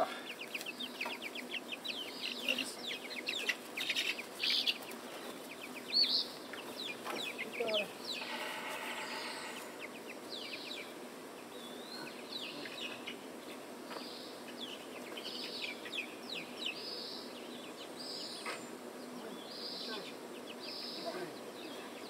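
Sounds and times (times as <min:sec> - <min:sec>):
chicks peeping and chirping: 0:00.0 - 0:22.0.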